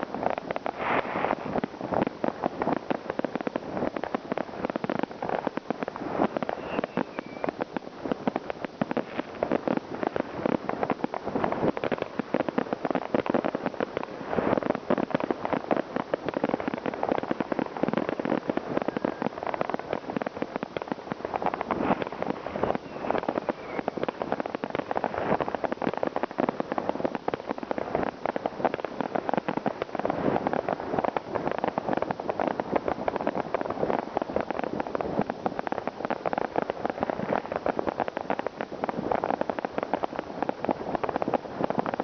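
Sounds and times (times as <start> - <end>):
firecrackers crackling: 0.0 - 42.0.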